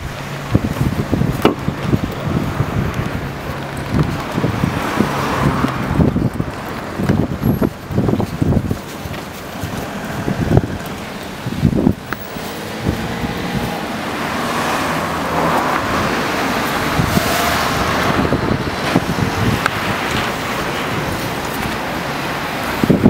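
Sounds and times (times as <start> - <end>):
wind buffeting microphone: 0.0 - 23.0
vehicle passing: 0.1 - 23.0.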